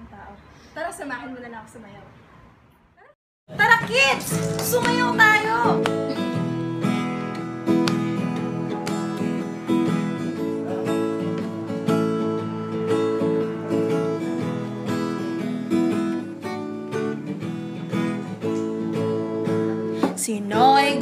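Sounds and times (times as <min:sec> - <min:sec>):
acoustic guitar strumming chords: 0:03.5 - 0:21.0.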